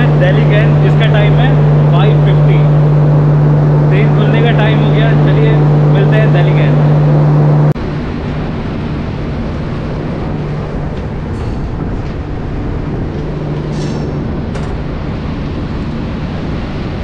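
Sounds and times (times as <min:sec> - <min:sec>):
train rumble and hum: 0:00.0 - 0:17.0.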